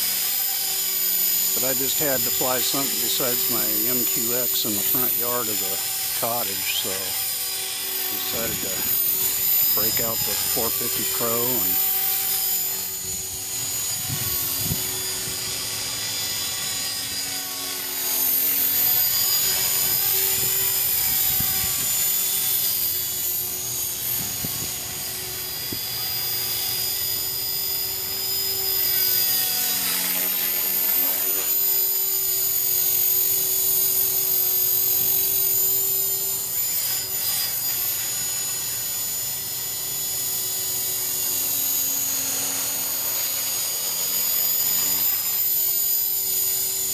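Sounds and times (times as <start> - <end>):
rc helicopter motor whine: 0.0 - 46.9
rotor hum: 0.0 - 46.9.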